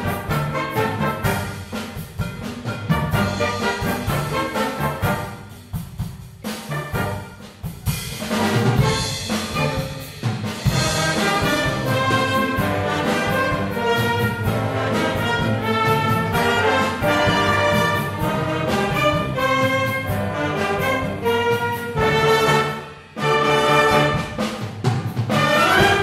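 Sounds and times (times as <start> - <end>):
brass section playing tune: 0.0 - 1.8, 2.6 - 5.8, 6.5 - 7.5, 8.3 - 24.6, 25.3 - 26.0
wind band playing: 0.0 - 26.0.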